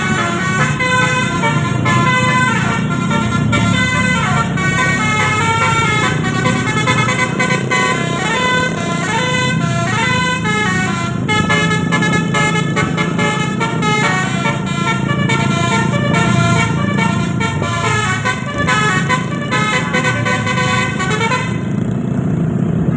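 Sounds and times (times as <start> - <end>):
musical horn melody: 0.0 - 21.7
engine running: 0.0 - 22.9.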